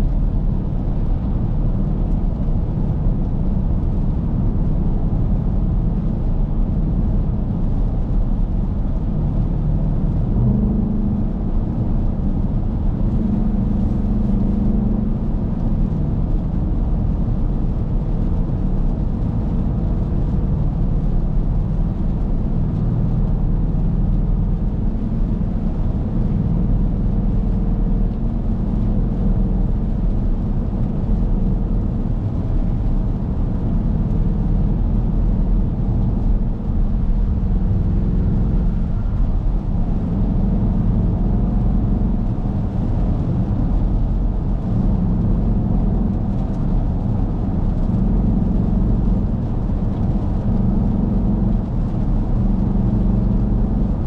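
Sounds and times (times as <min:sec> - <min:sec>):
car engine drone: 0:00.0 - 0:54.0
tyres on wet road: 0:00.0 - 0:54.0.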